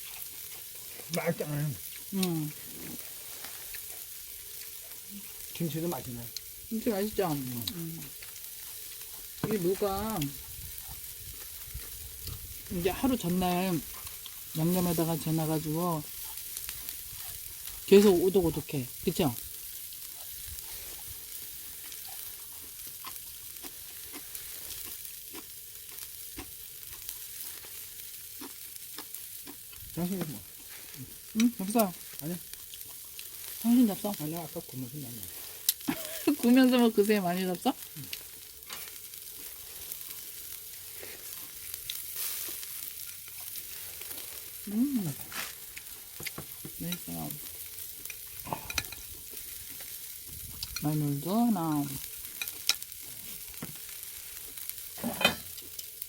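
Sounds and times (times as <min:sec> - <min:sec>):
charcoal popping and crackling: 0:00.0 - 0:56.0
meat sizzling on a grill: 0:00.0 - 0:56.0.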